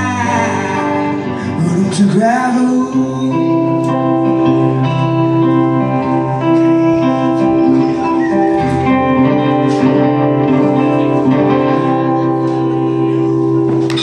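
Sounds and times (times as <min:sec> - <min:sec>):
guitar chords and plucked notes: 0:00.0 - 0:14.0.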